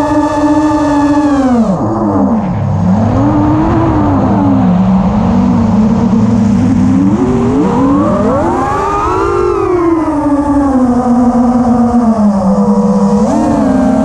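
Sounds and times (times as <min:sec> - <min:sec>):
electric motor and propeller whining: 0:00.0 - 0:14.0
wind rushing over microphone: 0:01.6 - 0:14.0.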